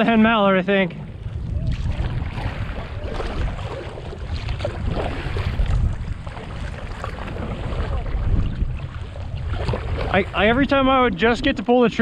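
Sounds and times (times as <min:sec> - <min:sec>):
paddle strokes splashing: 0:00.0 - 0:11.2
wind buffeting microphone: 0:00.0 - 0:12.0.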